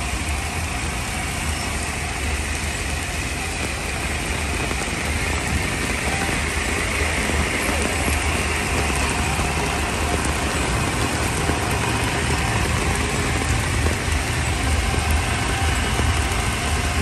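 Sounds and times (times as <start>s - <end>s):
heavy rain pouring: 0.0s - 17.0s
traffic engines rumbling: 0.0s - 17.0s.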